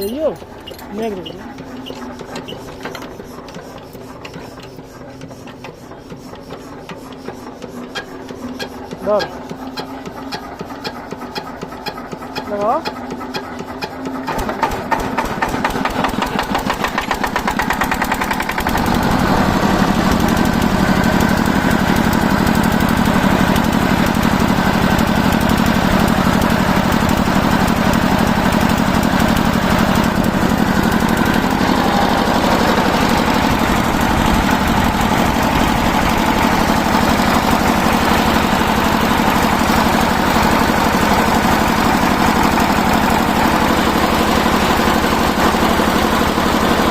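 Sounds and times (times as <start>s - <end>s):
stationary diesel engine running: 0.0s - 46.9s.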